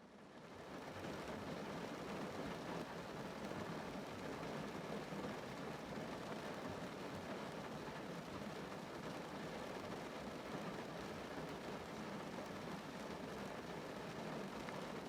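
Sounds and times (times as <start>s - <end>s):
rain on a car roof: 0.1s - 15.0s.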